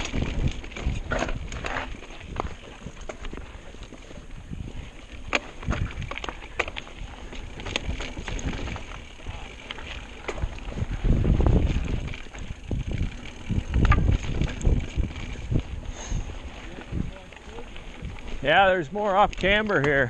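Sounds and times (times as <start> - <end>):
wind rumble on microphone: 0.0 - 18.6
bike rattling: 0.0 - 20.0
tyres crunching over rocks: 0.0 - 20.0.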